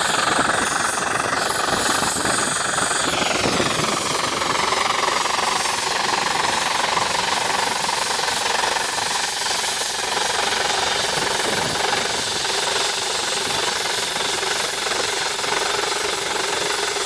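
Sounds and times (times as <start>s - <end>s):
steam engine exhaust chuffing: 0.0s - 17.0s.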